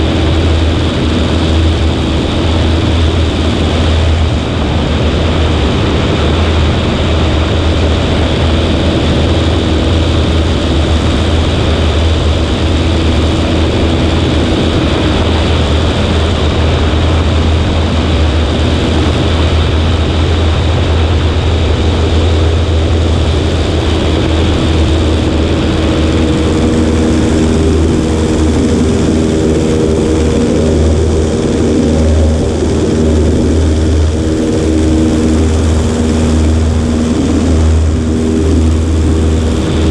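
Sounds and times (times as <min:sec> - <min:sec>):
propeller plane engine droning: 0:00.0 - 0:39.9
slipstream rushing over microphone: 0:00.0 - 0:39.9.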